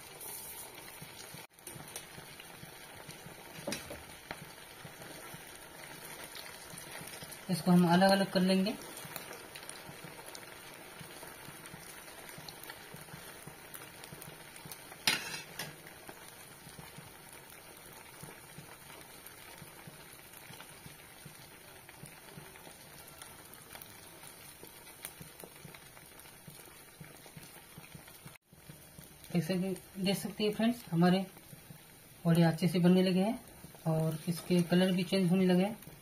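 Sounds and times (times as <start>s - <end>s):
deep-frying sizzle in oil: 0.0s - 36.0s.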